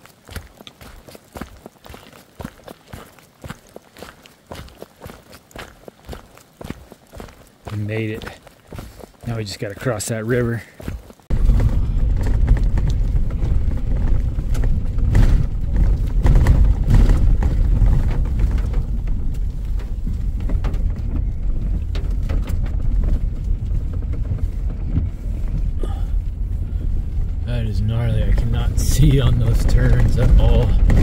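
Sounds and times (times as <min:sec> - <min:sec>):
truck engine and road rumble: 0:00.0 - 0:31.0
knocks and clatters from bumps: 0:04.6 - 0:31.0.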